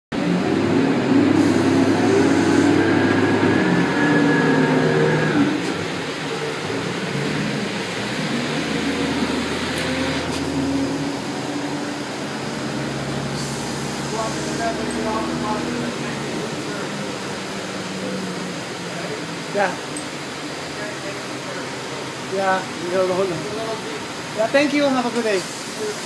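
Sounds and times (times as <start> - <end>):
vehicle engine rumbling: 0.1 - 26.0.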